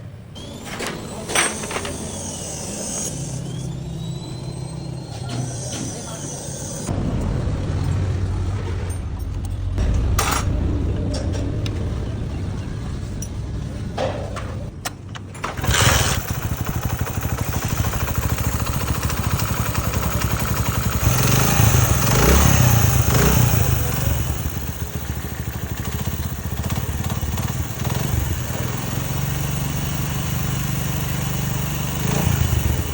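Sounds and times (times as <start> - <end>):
engine idling and revving: 0.4 - 14.7, 15.4 - 32.9.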